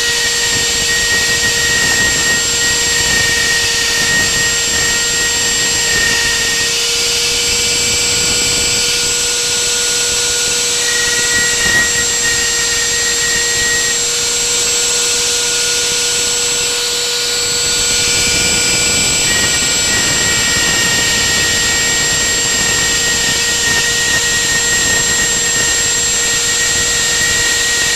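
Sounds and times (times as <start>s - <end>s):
router spindle whine: 0.0s - 27.9s.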